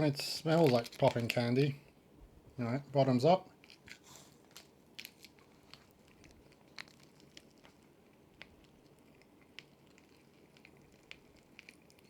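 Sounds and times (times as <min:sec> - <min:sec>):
popping candy crackling: 0:00.0 - 0:01.8, 0:03.0 - 0:12.0.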